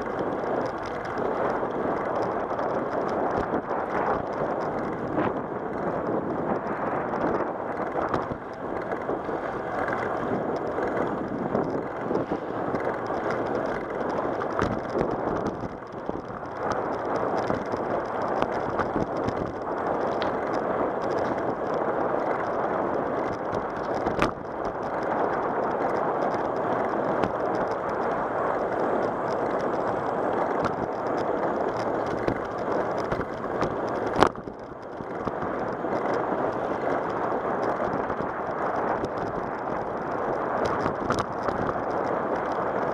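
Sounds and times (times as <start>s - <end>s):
bicycle tyres rolling on asphalt: 0.0s - 42.9s
wind on microphone: 0.0s - 42.9s.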